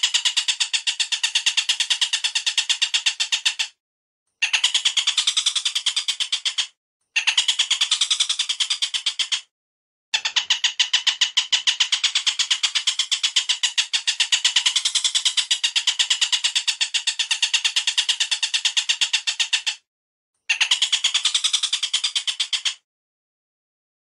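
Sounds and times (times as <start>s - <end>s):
recorded bird chattering: 0.0s - 3.8s, 4.4s - 9.5s, 10.2s - 22.9s.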